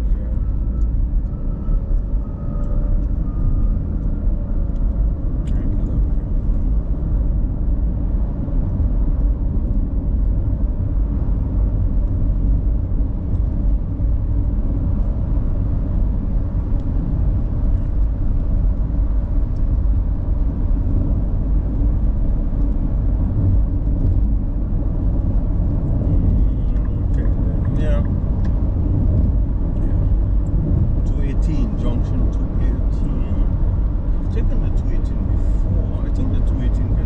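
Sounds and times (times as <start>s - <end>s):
car engine rumble: 0.0s - 37.0s
road noise: 0.0s - 37.0s.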